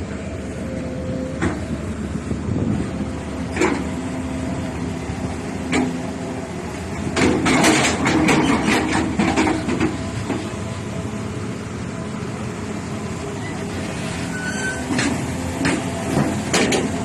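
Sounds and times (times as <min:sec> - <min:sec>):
excavator diesel engine idling: 0:00.0 - 0:17.0.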